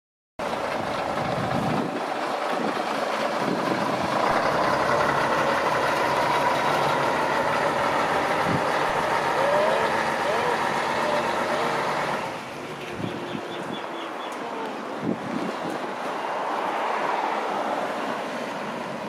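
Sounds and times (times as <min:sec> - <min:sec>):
diesel bus engine running: 0:00.4 - 0:16.8.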